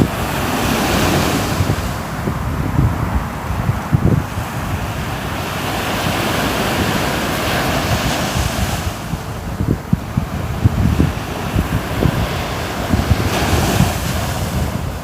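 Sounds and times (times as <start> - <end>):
ocean waves washing ashore: 0.0 - 15.0
wind buffeting microphone: 0.0 - 15.0.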